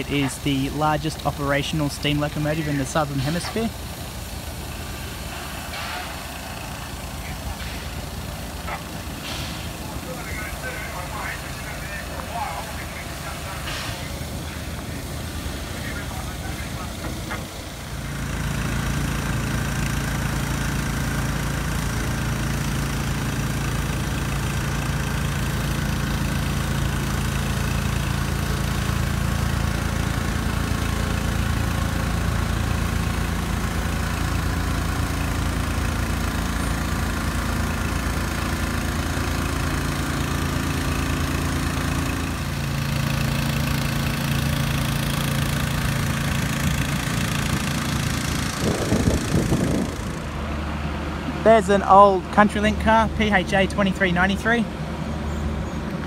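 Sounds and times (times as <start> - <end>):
locomotive engine hum: 0.0 - 56.0.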